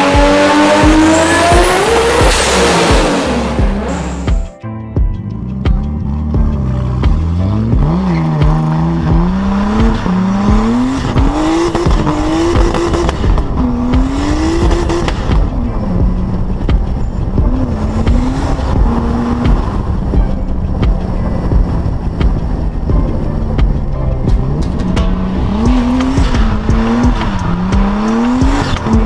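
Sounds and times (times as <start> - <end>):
car engine accelerating through gears: 0.0 - 4.5, 5.3 - 29.0
wind and road noise: 0.0 - 29.0.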